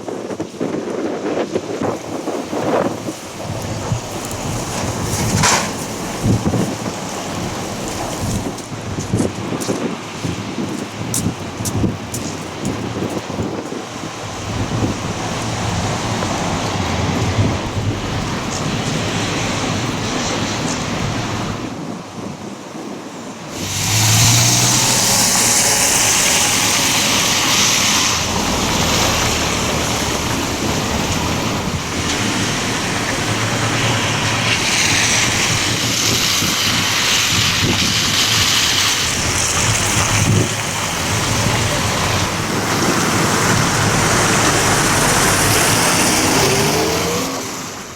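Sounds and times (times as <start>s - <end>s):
wind rushing over microphone: 0.0s - 47.9s
road traffic: 1.5s - 47.9s.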